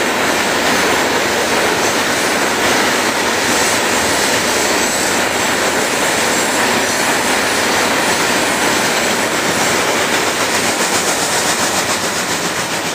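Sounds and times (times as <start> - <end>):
freight train wheels on rails: 0.0 - 12.9.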